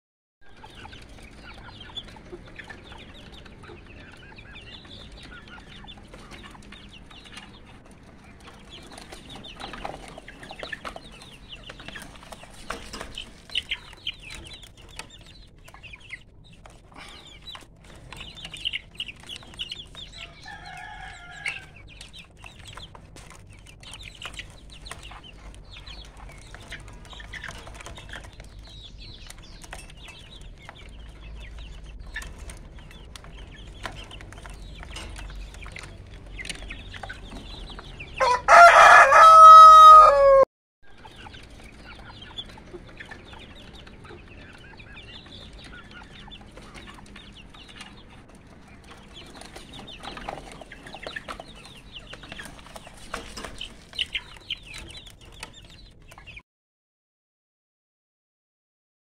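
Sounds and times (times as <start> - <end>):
chickens clucking: 0.5 - 56.4.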